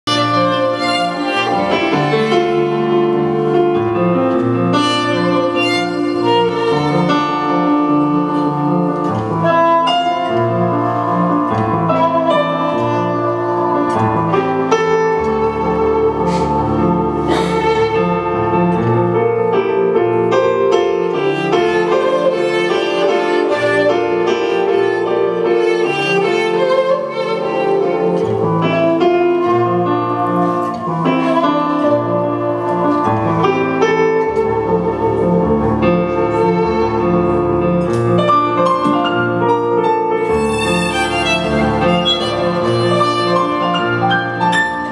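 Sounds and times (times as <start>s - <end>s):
bowed fiddle melody: 0.0s - 44.9s.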